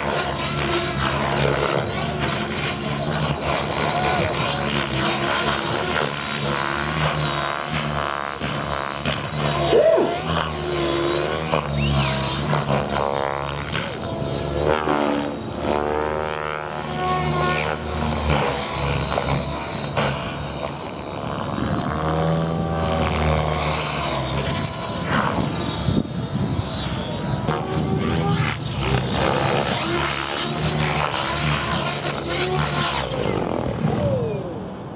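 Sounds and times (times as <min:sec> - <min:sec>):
model helicopter motor and rotor: 0:00.0 - 0:34.9.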